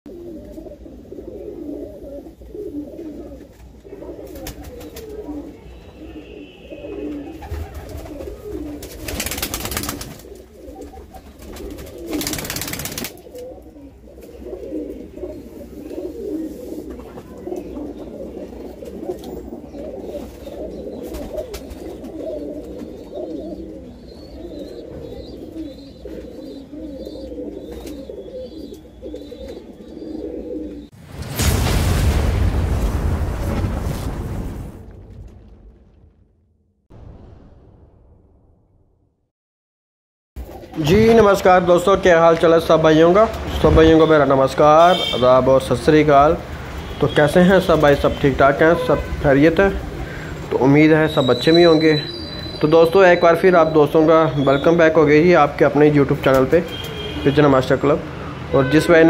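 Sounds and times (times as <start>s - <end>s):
pigeons cooing: 0.1s - 30.9s, 40.4s - 58.4s.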